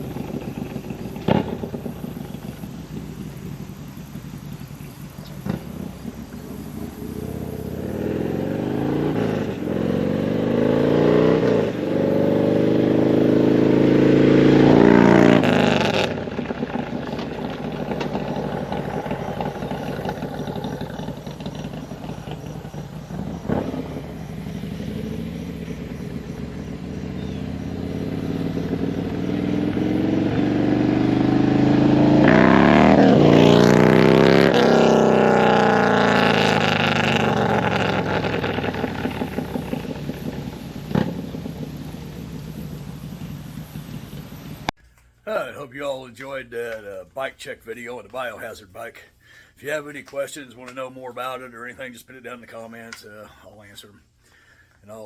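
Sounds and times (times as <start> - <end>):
motorcycle engine accelerating: 0.0 - 44.8.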